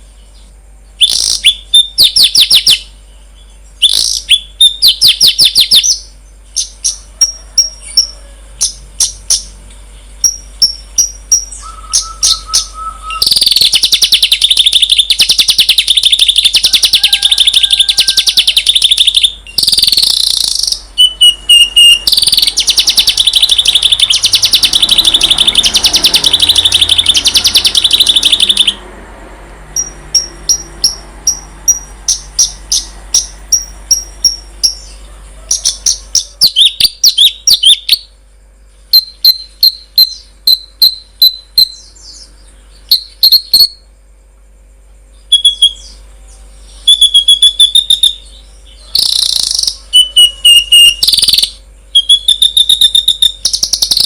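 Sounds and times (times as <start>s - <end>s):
songbird chirps and whistles: 0.0s - 28.8s, 29.8s - 38.2s, 38.8s - 43.9s, 45.1s - 54.0s
buzzing bird trills: 0.0s - 54.0s.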